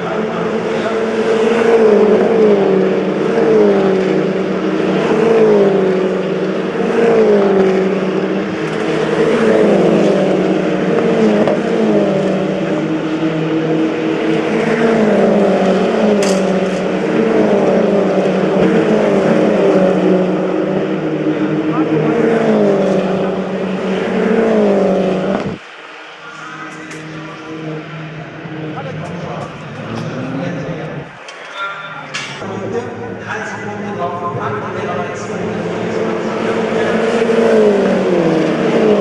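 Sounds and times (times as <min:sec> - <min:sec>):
race car engines: 0:00.0 - 0:39.0.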